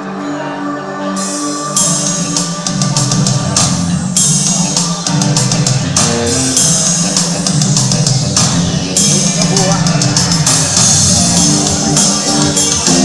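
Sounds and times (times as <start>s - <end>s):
band playing: 0.0s - 13.0s
drum kit steady beat: 1.2s - 13.0s.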